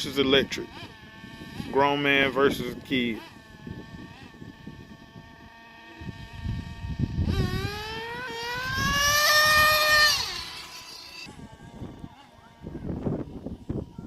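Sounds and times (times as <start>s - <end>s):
motor note rising in pitch: 0.0s - 14.0s
remote-control cars whining: 0.0s - 14.0s.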